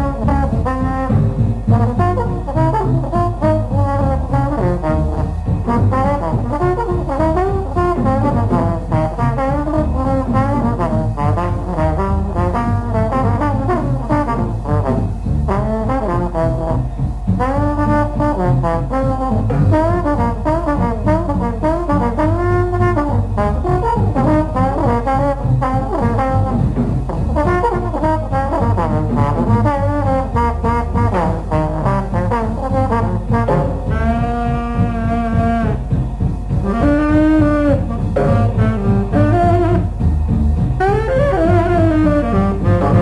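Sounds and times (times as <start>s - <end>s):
low recording hum: 0.0s - 43.0s.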